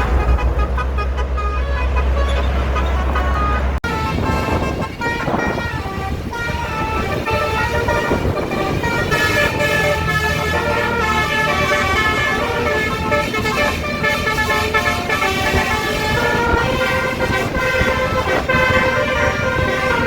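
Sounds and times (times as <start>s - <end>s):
bus rumble: 0.0s - 20.0s
musical bus horn tune: 0.0s - 20.0s.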